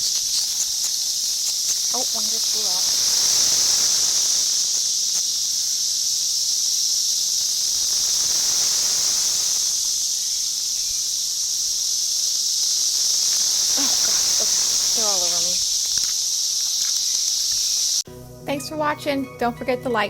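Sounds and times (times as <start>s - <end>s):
cicadas droning: 0.0s - 18.3s.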